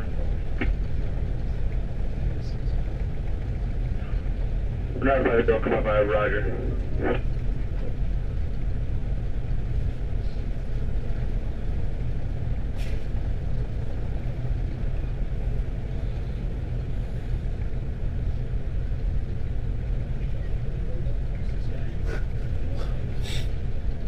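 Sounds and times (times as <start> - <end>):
ship machinery rumble: 0.0 - 24.0.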